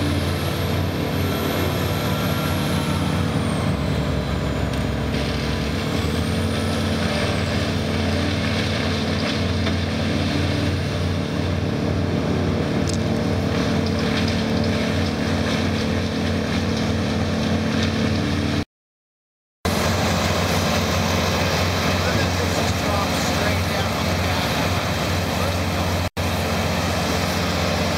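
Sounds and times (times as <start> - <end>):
heavy machine engine running: 0.0 - 18.6, 19.7 - 27.9.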